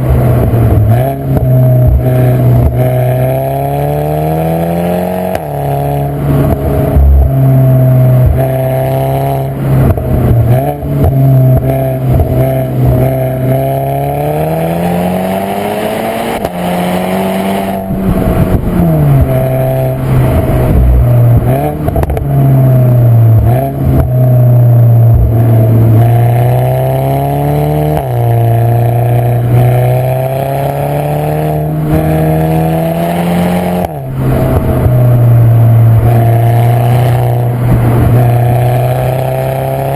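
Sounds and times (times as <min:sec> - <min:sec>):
car engine revving loud: 0:00.0 - 0:39.9.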